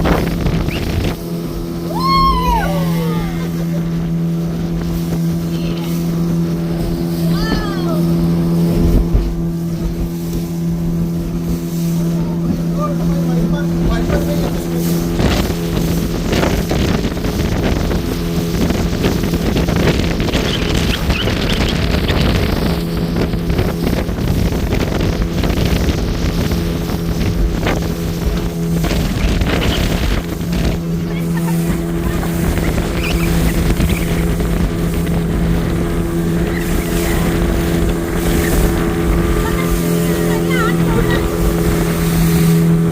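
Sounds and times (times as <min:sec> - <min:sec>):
boat engine humming: 0:00.0 - 0:42.9
rushing water: 0:00.0 - 0:42.9
wind buffeting microphone: 0:00.0 - 0:42.9.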